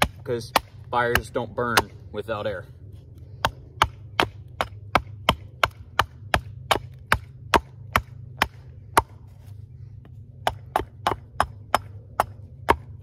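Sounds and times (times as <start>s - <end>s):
hatchet chopping wood: 0.0s - 2.0s, 3.4s - 9.3s, 10.4s - 13.0s.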